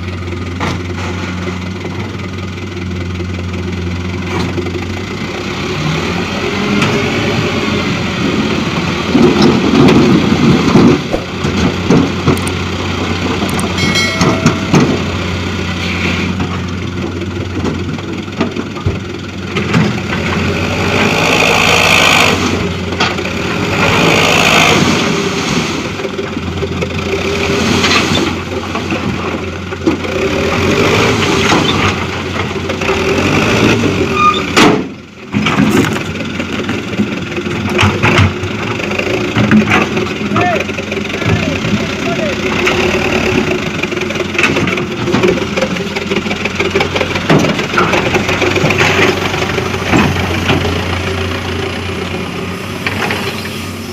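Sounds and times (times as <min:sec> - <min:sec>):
diesel truck engine revving: 0:00.0 - 0:53.9.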